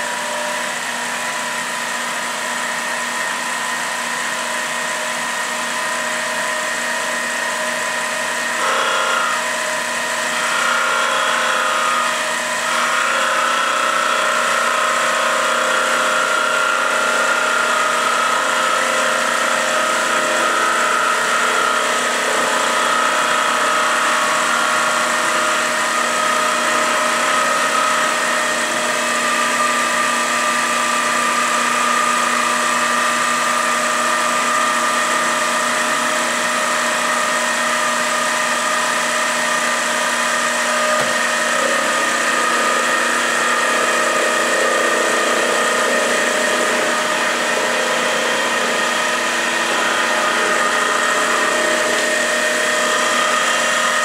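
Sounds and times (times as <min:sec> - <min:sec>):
boring bar cutting wood: 0:00.0 - 0:54.0
lathe motor whine: 0:00.0 - 0:54.0.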